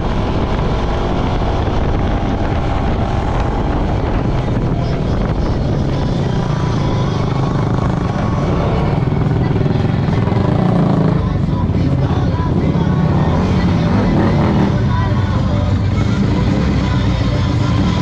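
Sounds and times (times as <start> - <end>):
atv engine running: 0.0 - 18.0.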